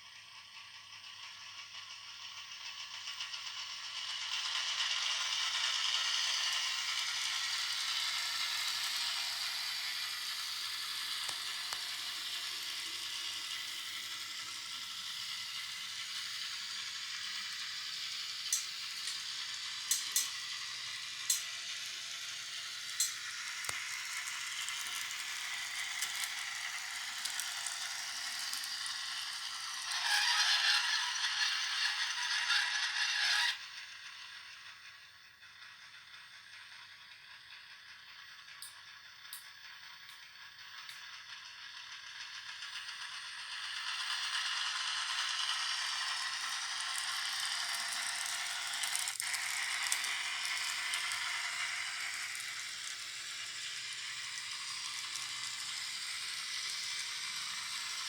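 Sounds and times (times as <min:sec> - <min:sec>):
tinny diesel railcar sound: 0:00.0 - 0:58.0.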